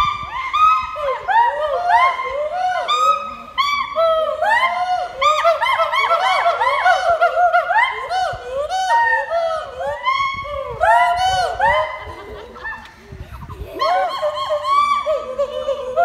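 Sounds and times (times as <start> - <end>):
gibbons whooping calls: 0.0 - 16.0.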